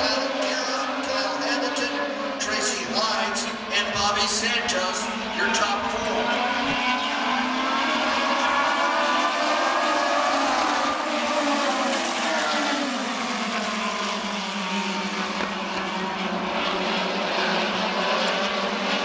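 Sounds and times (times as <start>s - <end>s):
race car engines at speed: 0.0s - 19.0s.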